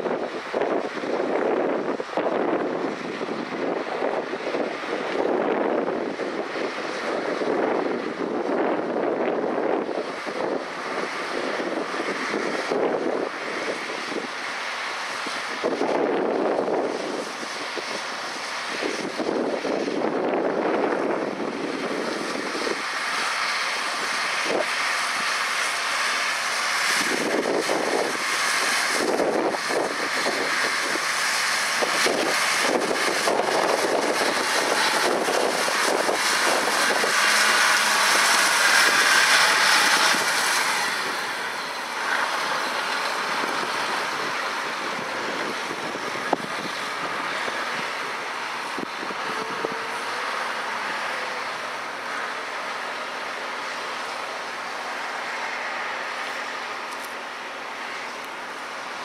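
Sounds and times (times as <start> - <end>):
tractor running under load: 0.0 - 59.0.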